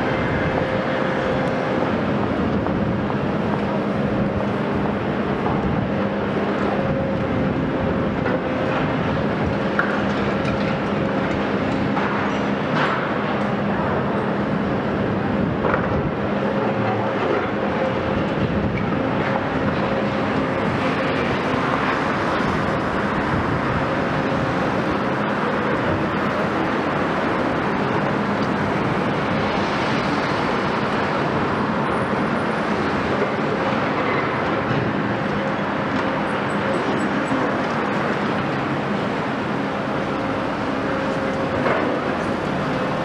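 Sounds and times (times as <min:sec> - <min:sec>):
diesel engine running under load: 0:00.0 - 0:43.0
excavator arm working at concrete: 0:00.0 - 0:43.0.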